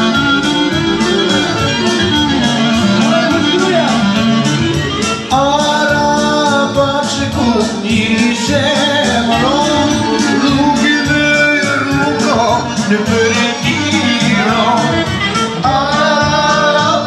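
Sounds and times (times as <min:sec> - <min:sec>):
keyboard dance music: 0:00.0 - 0:17.0
man singing long notes: 0:00.0 - 0:17.0.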